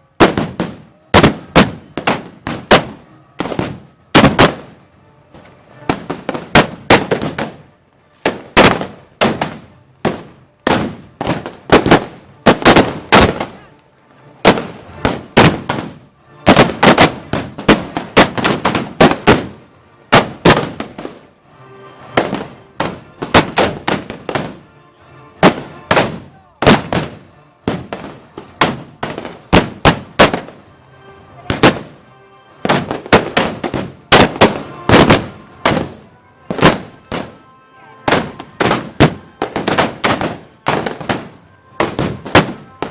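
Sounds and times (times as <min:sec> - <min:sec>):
faint band music: 0:00.0 - 0:42.9
gunshots firing: 0:00.2 - 0:04.8, 0:05.9 - 0:07.6, 0:08.3 - 0:13.6, 0:14.5 - 0:21.2, 0:22.2 - 0:24.6, 0:25.4 - 0:30.6, 0:31.5 - 0:32.0, 0:32.6 - 0:37.4, 0:38.1 - 0:42.9.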